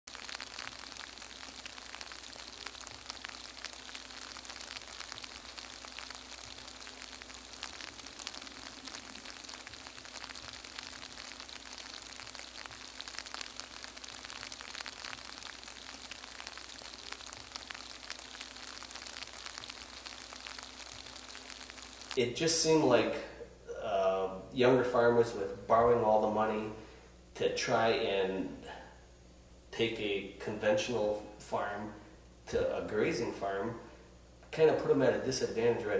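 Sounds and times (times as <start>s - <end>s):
crackling hiss with clicks: 0.0s - 35.9s
faint low hum: 0.1s - 35.9s.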